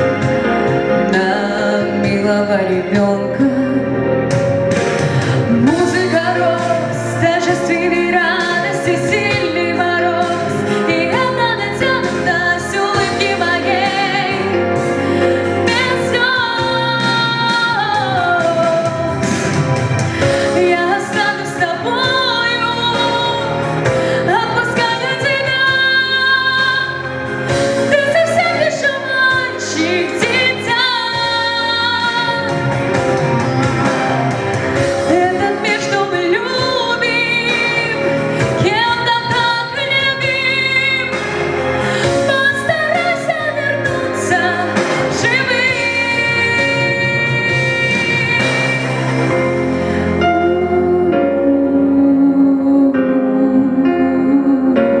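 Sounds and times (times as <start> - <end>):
instrumental backing: 0.0 - 55.0
woman singing with vibrato: 0.9 - 4.3, 5.1 - 34.0, 34.6 - 55.0.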